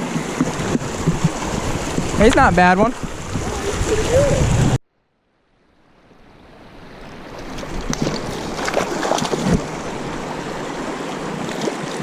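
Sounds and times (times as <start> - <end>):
flowing stream water: 0.0 - 12.0.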